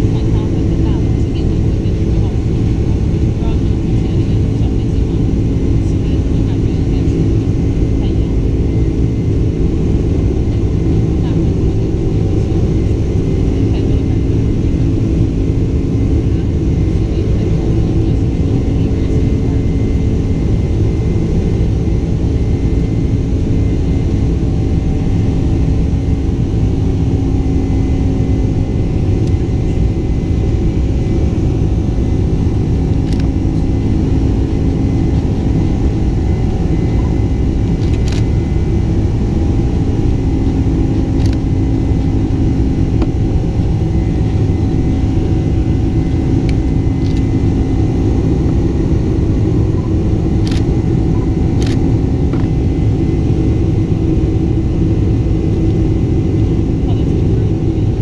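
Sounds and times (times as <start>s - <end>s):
jet engines rumbling: 0.0s - 58.0s
steady cabin hum: 0.0s - 58.0s.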